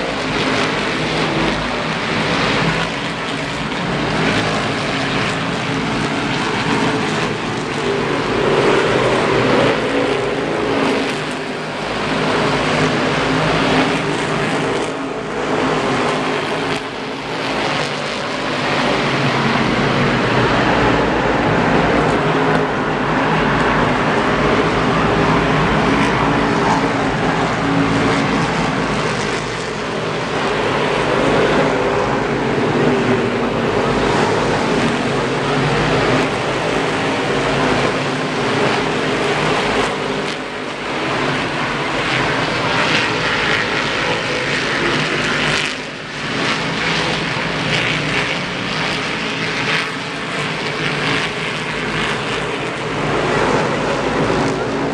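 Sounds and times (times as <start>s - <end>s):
race car engines droning: 0.0s - 54.9s.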